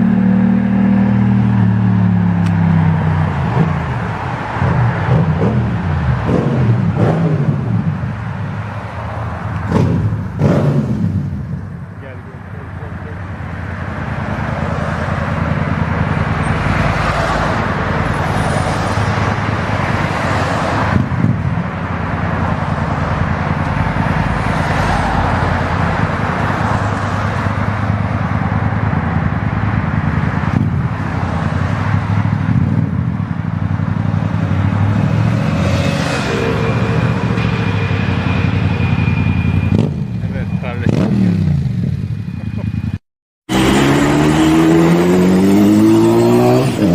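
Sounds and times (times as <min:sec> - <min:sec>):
wind and road noise: 0:00.0 - 0:46.9.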